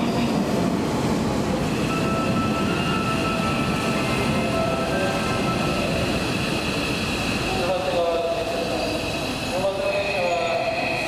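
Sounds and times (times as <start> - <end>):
high train whine: 0.0 - 11.0
train rumbling: 0.0 - 11.0.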